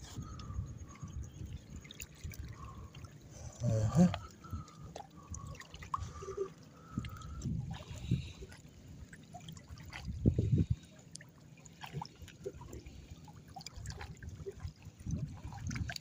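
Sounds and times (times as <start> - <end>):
water trickling among rocks: 0.0 - 16.0.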